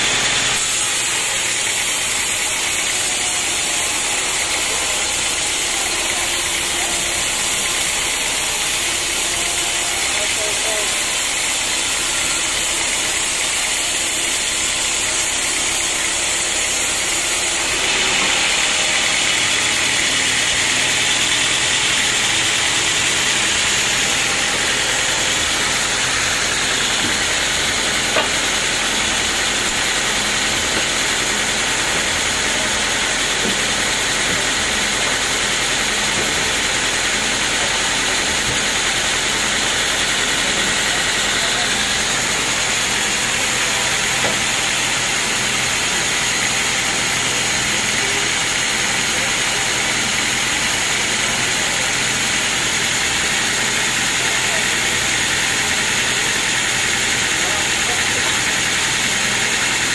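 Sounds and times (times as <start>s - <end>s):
sawmill machinery din: 0.0s - 59.9s.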